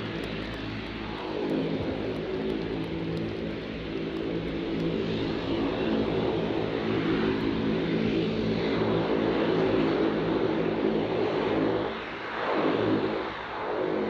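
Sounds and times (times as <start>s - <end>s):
propeller rushing: 0.0s - 11.8s
aircraft engine droning: 0.0s - 14.0s.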